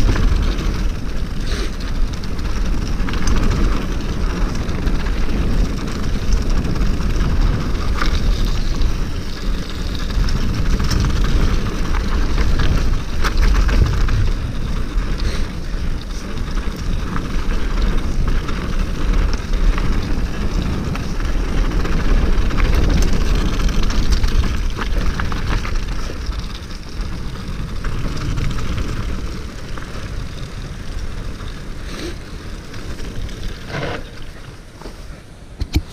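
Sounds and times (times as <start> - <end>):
bike frame clicks and rattles: 0.0 - 34.5
bike tyres rumbling on hard ground: 0.0 - 35.9
wind rushing over microphone: 0.0 - 35.9.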